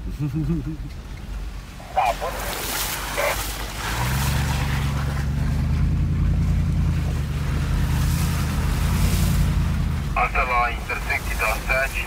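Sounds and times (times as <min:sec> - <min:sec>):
car engine humming under load: 0:00.0 - 0:12.0.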